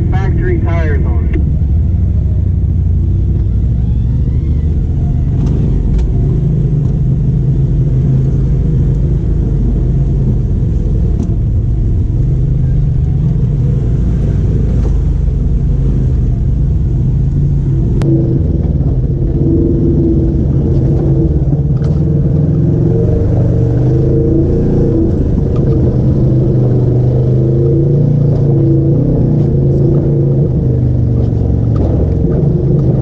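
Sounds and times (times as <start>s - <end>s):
off-road vehicle engine rumble: 0.0s - 33.0s.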